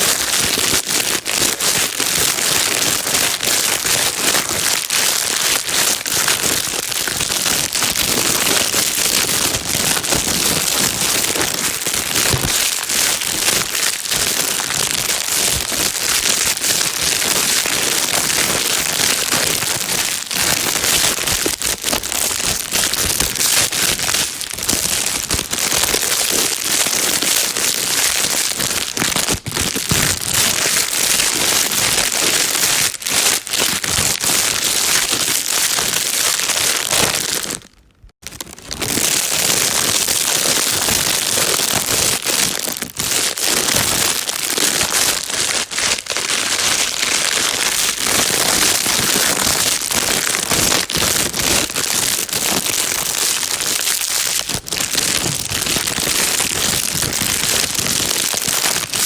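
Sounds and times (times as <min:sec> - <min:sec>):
plastic bag crinkling: 0:00.0 - 0:59.0.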